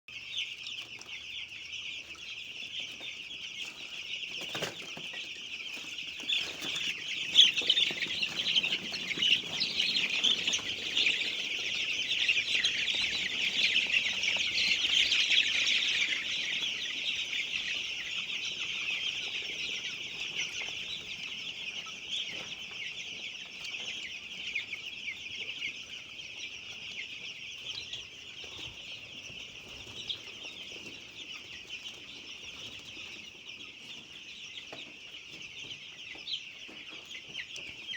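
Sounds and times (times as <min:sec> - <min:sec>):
flock of chickens calling: 0:00.1 - 0:37.9.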